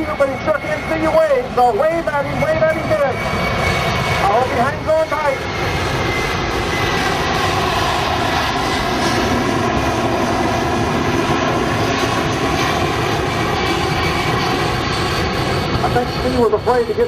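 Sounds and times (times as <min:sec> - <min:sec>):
loud jet engine noise: 0:00.0 - 0:17.0.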